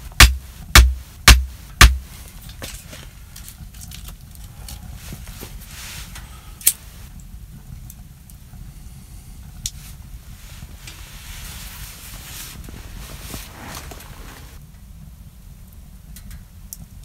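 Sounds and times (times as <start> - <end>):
fire crackles: 0.0 - 17.0
wood fire rumbling in stove: 0.0 - 17.0.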